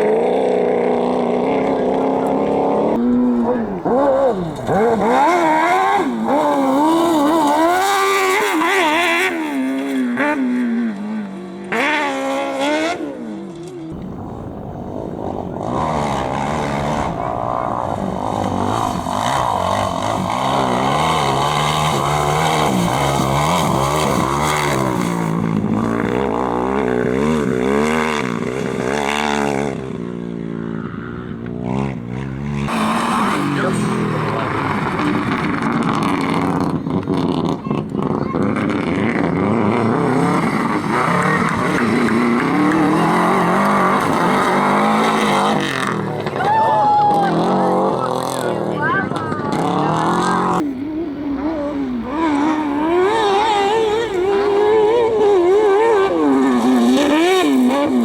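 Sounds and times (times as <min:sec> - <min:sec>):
another engine revving: 0:00.0 - 0:10.8, 0:11.6 - 0:46.5, 0:47.3 - 0:58.0
vehicle engine revving: 0:00.0 - 0:58.0.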